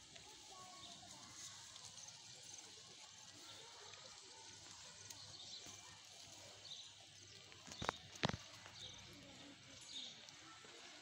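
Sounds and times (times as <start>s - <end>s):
animals munching grass: 0.0s - 11.0s.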